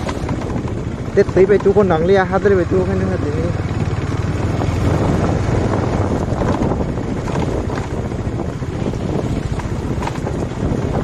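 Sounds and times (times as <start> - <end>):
motorcycle engine running: 0.0 - 11.0
wind buffeting on microphone: 0.0 - 11.0.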